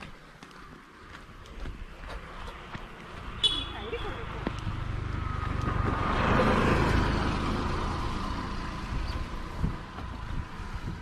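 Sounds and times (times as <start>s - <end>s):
road noise rumble: 0.0s - 11.0s.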